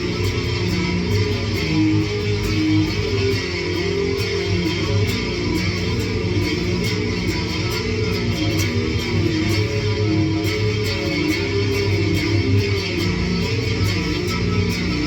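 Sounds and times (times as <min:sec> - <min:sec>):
distorted electric guitar: 0:00.0 - 0:15.0.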